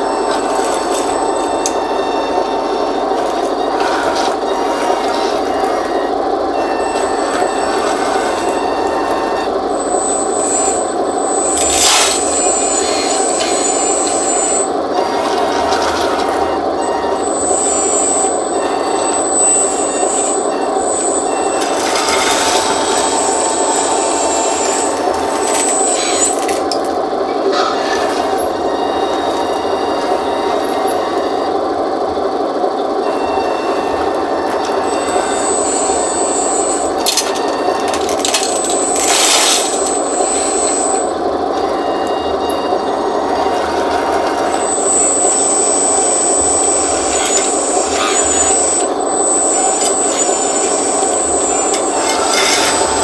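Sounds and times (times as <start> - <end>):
clicks: 0.0 - 53.0
small electric motors whirring: 0.0 - 53.0
thin high whine: 0.0 - 53.0.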